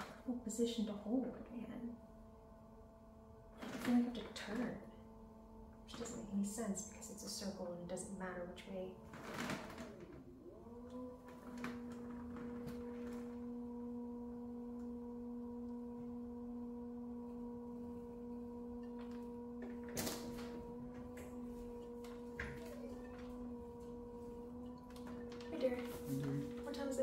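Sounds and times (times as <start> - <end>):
pottery wheel motor whining: 0.0 - 27.0.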